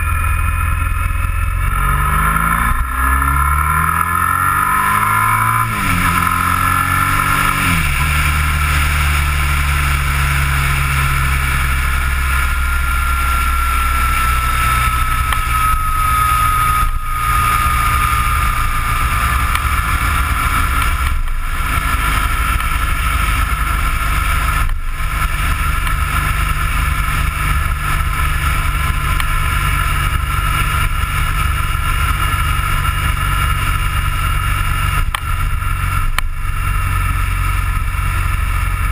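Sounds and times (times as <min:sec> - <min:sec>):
vehicle engine running: 0:00.0 - 0:38.9
faint high whine: 0:05.2 - 0:38.8.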